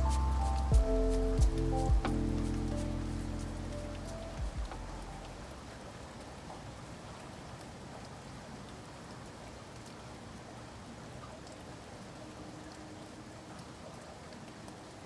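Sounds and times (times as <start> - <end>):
small drip ticks: 0.0 - 15.0
steady rain: 0.0 - 15.0.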